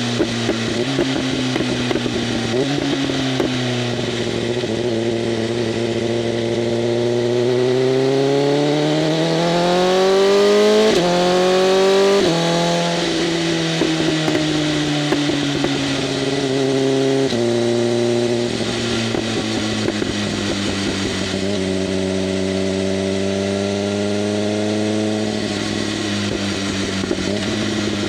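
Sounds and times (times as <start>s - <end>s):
motorcycle engine accelerating: 0.0s - 28.0s
motorcycle upshifts: 0.0s - 28.0s.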